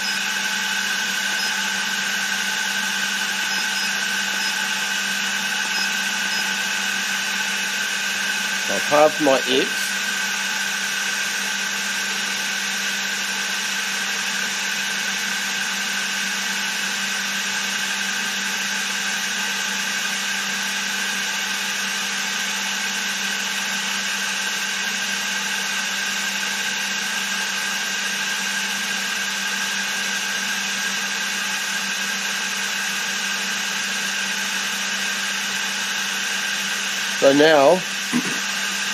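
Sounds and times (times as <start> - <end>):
milling machine hum and whine: 0.0 - 38.9.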